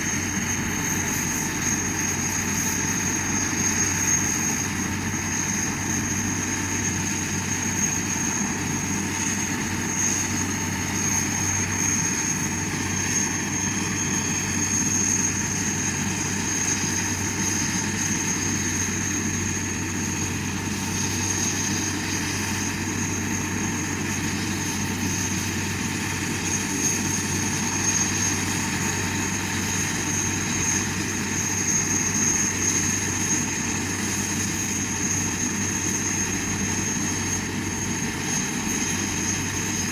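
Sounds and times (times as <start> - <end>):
helicopter engine drone: 0.0 - 39.9
high-pitched whine: 0.0 - 39.9.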